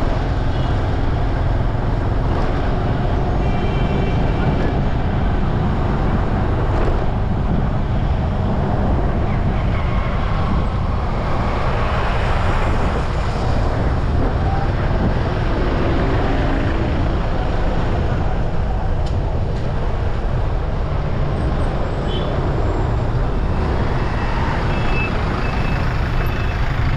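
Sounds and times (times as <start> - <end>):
road and traffic rumble: 0.0 - 26.9.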